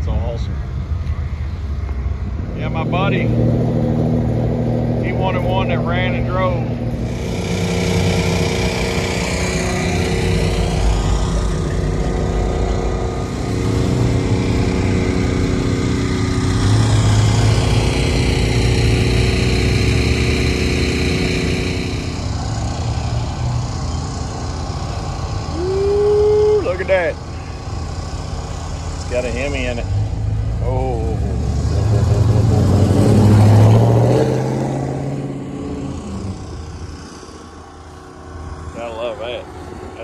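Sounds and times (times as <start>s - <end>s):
car engines rumbling: 0.0s - 40.0s.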